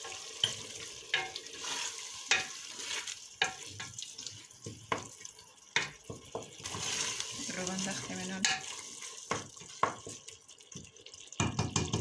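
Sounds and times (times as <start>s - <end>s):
wooden spatula scraping a pot: 0.0s - 10.2s
frying hiss: 0.0s - 12.0s.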